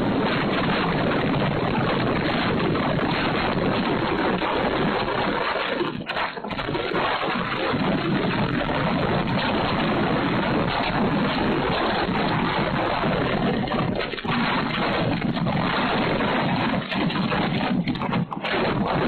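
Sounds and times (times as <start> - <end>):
strong gusty wind: 0.0 - 19.0.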